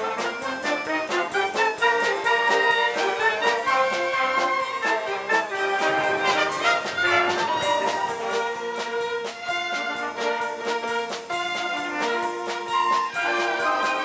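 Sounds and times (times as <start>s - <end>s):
orchestra brass: 0.0s - 14.0s
orchestra strings: 0.0s - 14.0s.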